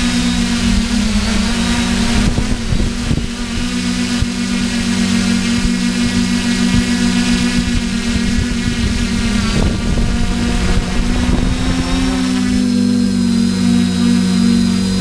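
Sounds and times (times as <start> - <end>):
drone propellers humming: 0.0 - 15.0
wind rumbling on microphone: 0.0 - 15.0.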